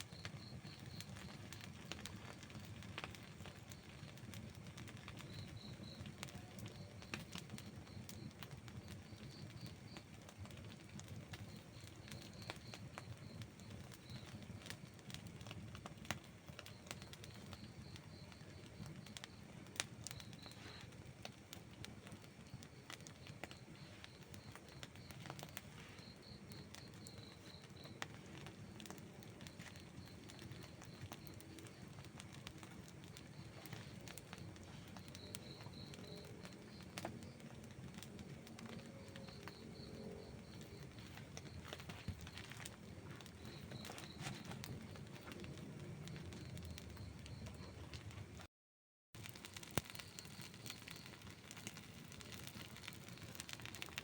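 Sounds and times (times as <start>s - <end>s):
campfire crackling and popping: 0.0s - 48.5s, 49.2s - 54.0s.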